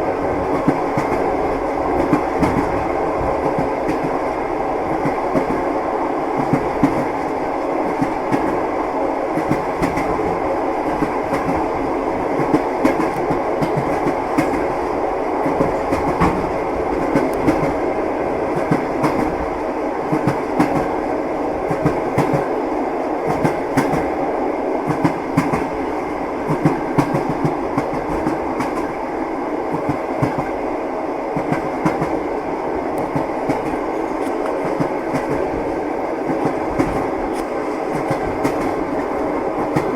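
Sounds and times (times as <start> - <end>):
train wheels clickety-clack: 0.0 - 24.2, 24.8 - 29.0, 29.7 - 30.7, 31.3 - 39.9
train carriage rumbling: 0.0 - 39.9.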